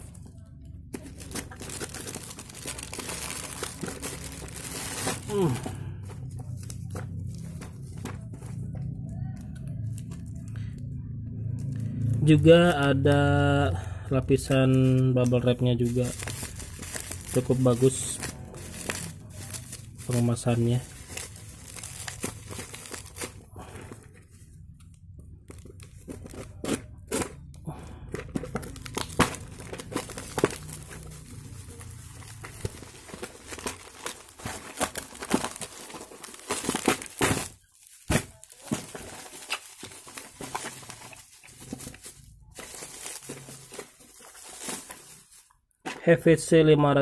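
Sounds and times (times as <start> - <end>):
cardboard and bubble wrap crinkling: 0.9 - 10.8, 14.3 - 46.1.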